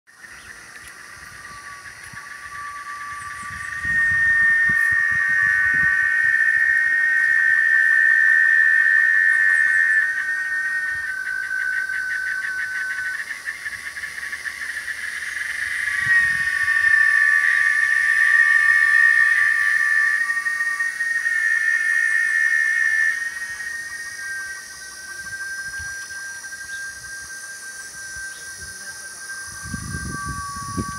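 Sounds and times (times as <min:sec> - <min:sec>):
cicada song: 0:00.1 - 0:30.9.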